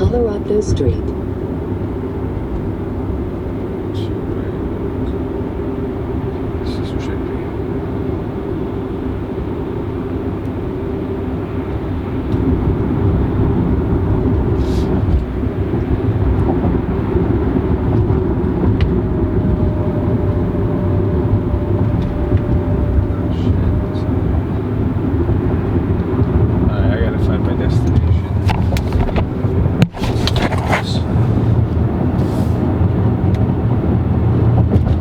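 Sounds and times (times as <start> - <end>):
road and tyre noise in car: 0.0 - 35.0.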